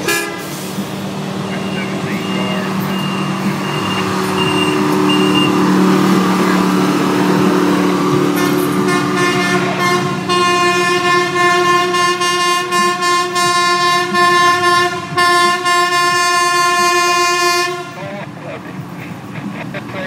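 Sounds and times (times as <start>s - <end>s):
truck horn long blasts: 0.0s - 0.8s, 1.9s - 18.1s
diesel engine running: 0.0s - 20.0s.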